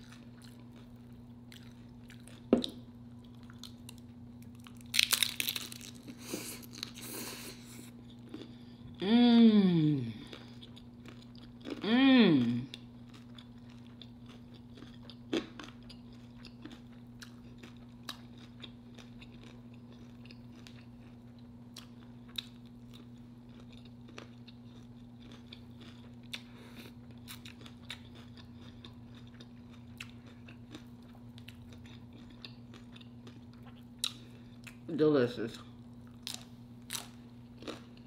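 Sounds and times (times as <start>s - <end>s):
person chewing and crunching food: 0.0s - 9.0s, 9.7s - 34.9s, 35.5s - 38.0s
steady low hum: 0.0s - 38.0s.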